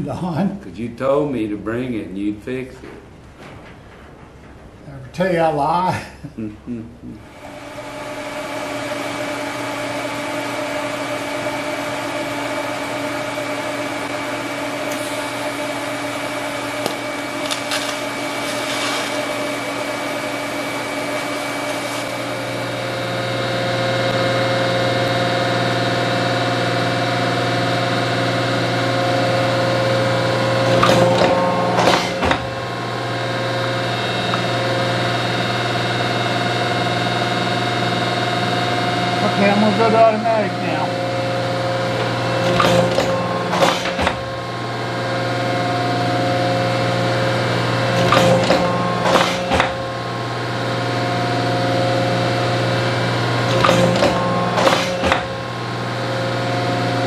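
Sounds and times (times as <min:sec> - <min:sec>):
machine hum with held tones: 0:06.2 - 0:57.0.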